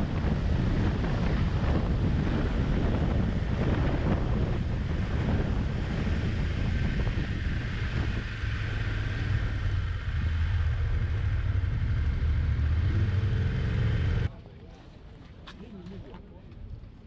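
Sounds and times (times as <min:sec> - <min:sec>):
wind rushing over microphone: 0:00.0 - 0:14.3
motorcycle low rumble: 0:00.0 - 0:14.4.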